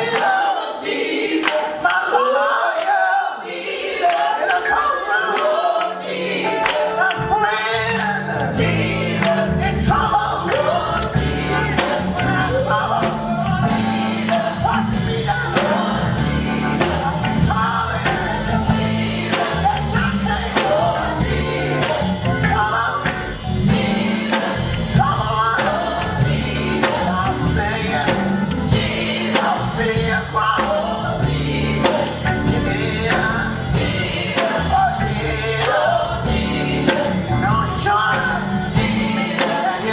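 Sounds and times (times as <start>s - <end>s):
group vocals singing gospel: 0.0s - 39.9s
bass guitar: 7.2s - 39.9s
steady drum beat: 8.0s - 39.9s.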